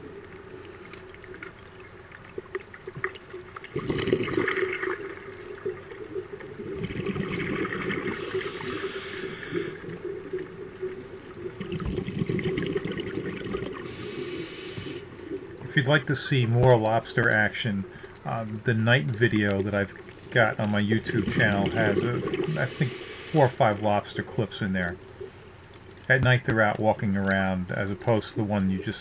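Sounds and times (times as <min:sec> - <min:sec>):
exhaled bubbles rushing underwater: 0:00.0 - 0:24.5
steady low hum: 0:04.9 - 0:29.0.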